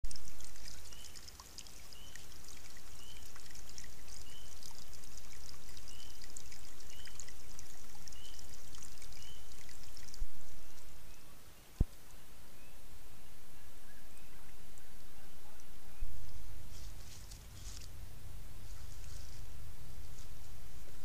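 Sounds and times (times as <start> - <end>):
water trickling through dam: 0.0 - 21.0.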